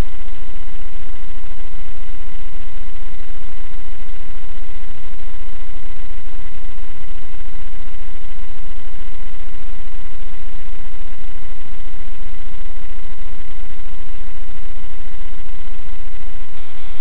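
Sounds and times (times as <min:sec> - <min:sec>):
recording hiss and hum: 0:00.0 - 0:17.0
thin electrical whine: 0:00.0 - 0:17.0.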